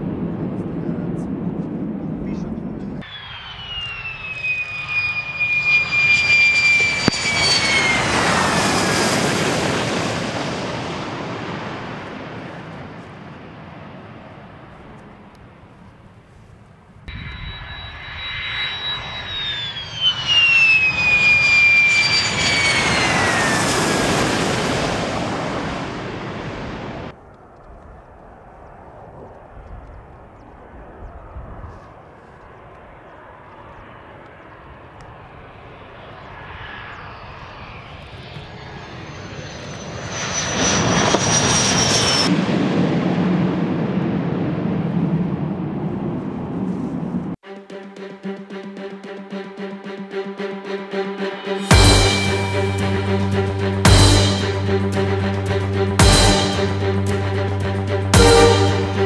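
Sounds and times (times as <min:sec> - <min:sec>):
fighter jets taking off: 0:00.0 - 0:16.2, 0:17.0 - 0:27.2, 0:32.5 - 0:59.0
faint jet engines on approach: 0:00.0 - 0:59.0.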